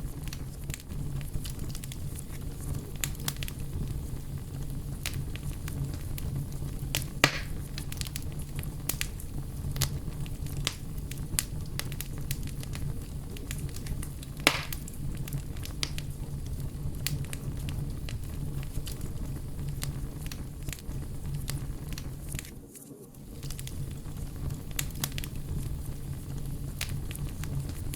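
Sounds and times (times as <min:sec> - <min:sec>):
bonfire flames rumbling: 0:00.0 - 0:27.9
fire crackling and popping: 0:00.0 - 0:27.9.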